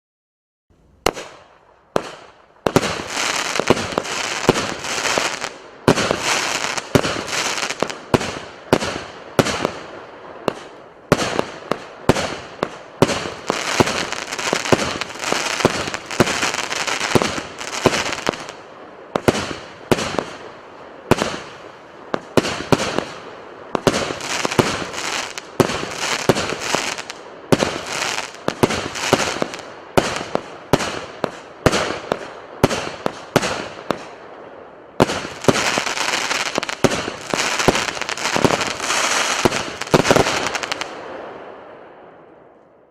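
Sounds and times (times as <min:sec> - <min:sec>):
hiss and crackle of stars: 0:00.8 - 0:42.9
firework shots: 0:01.0 - 0:34.2, 0:35.0 - 0:41.2.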